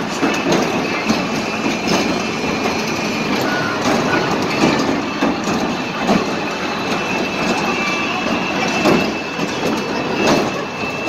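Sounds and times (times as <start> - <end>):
clanks: 0.0 - 11.0
wheels rumbling over track: 0.0 - 11.0.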